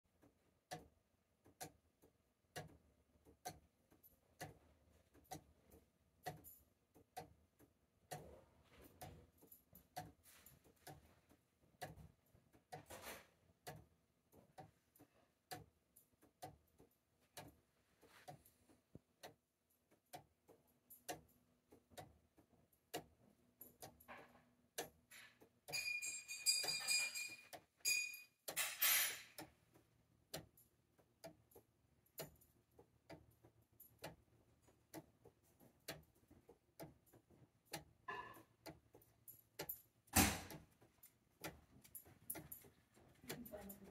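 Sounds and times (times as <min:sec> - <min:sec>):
clock ticking: 0:00.1 - 0:43.9.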